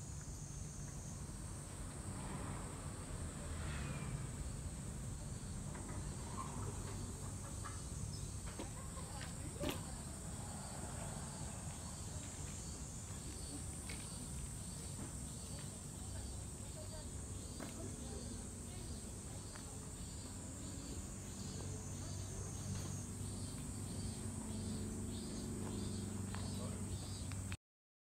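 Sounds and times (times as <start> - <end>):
cicadas droning: 0.0 - 27.6.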